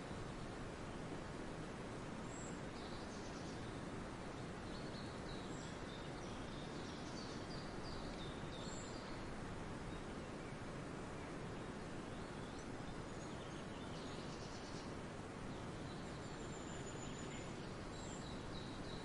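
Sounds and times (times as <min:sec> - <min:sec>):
forest background hiss: 0:00.0 - 0:19.0
songbird chirps: 0:00.0 - 0:19.0.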